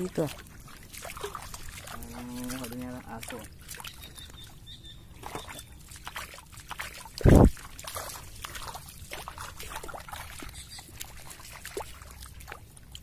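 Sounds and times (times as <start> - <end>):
splashing footsteps in water: 0.0 - 13.0.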